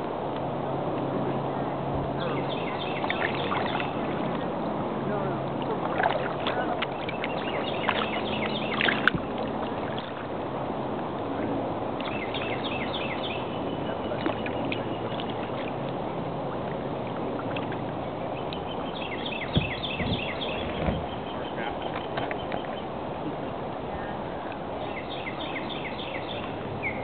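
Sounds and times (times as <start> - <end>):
boat and water rushing: 0.0 - 27.0.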